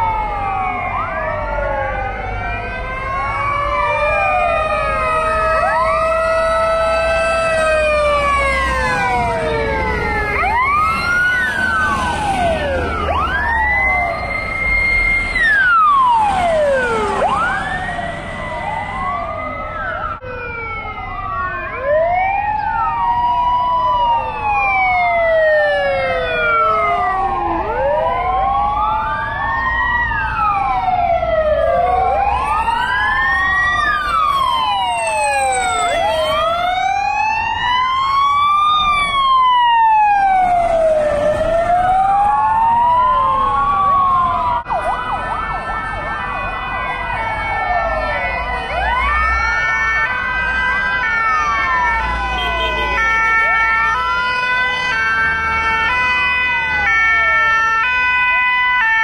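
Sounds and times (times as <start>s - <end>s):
fire engine sirens wailing: 0.0s - 59.0s.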